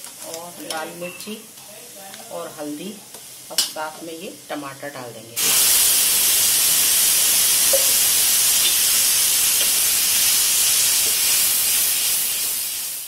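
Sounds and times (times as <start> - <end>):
tomato puree sizzling in hot oil: 0.0 - 13.0.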